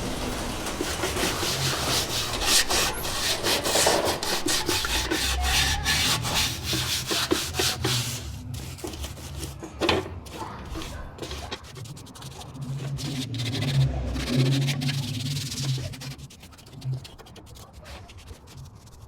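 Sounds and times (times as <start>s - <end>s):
rubbing strokes on metal surface: 0.0s - 19.0s.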